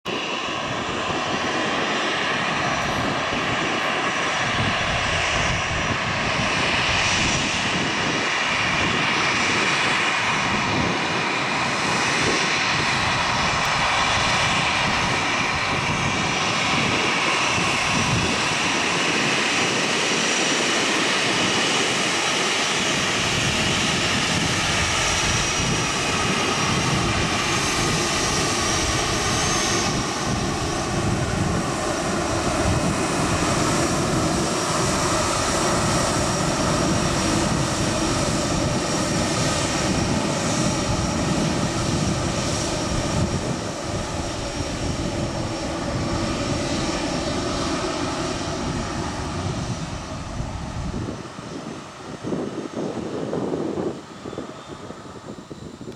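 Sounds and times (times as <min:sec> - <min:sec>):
jet engines whining at taxi: 0:00.0 - 0:55.9.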